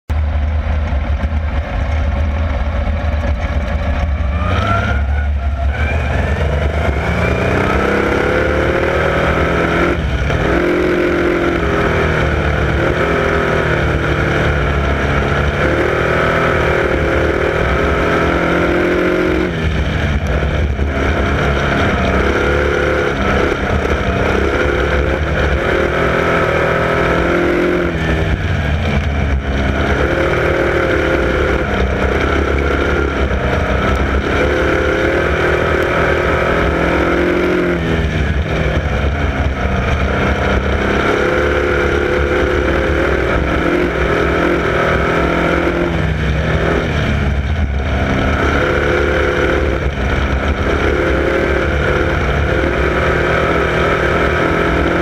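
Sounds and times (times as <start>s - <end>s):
race car engine revving: 0.1s - 55.0s.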